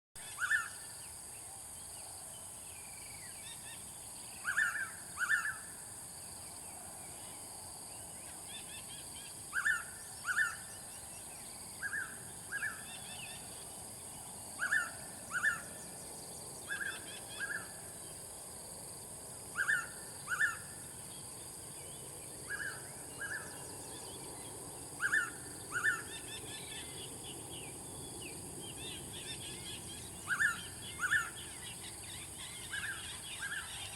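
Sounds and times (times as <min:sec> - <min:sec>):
faint bird chirps: 0:00.2 - 0:05.8, 0:06.7 - 0:18.2, 0:19.5 - 0:33.9
steady high hiss: 0:00.2 - 0:33.9.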